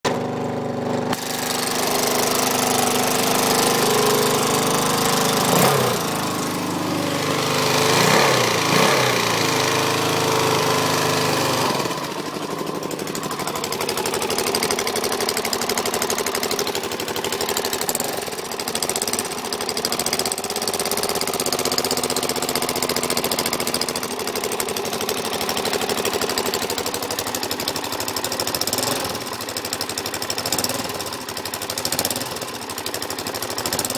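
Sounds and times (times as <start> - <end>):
engine clicking: 0.1 - 33.9
motorcycle engine idling: 0.1 - 33.9.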